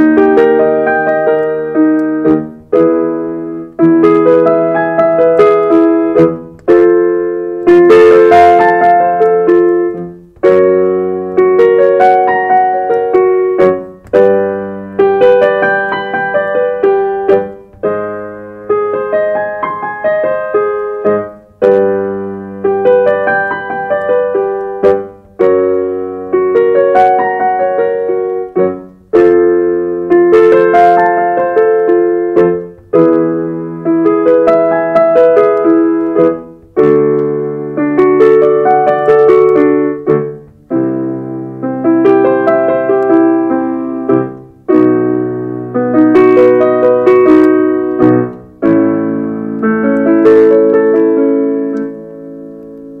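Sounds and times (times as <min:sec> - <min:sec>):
piano accompaniment with chords: 0:00.0 - 0:53.0.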